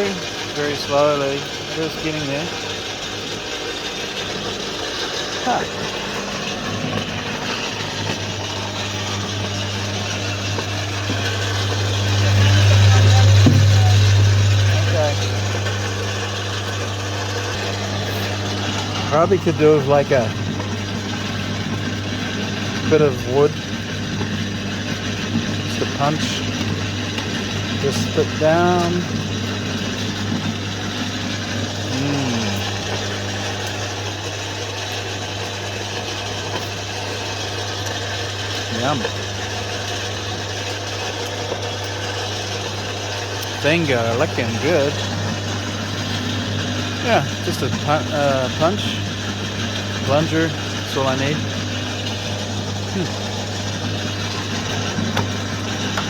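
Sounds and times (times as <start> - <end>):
fruit grinder motor hum: 0.0 - 56.0
rough grinding noise: 0.0 - 56.0.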